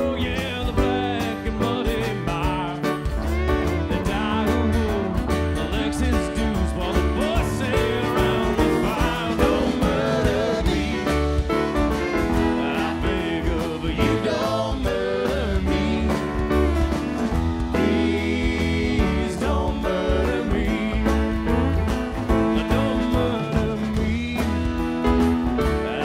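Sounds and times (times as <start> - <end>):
bass: 0.0 - 26.0
dobro slide guitar: 0.0 - 26.0
drum kit: 0.0 - 26.0
strummed acoustic guitar: 0.0 - 26.0.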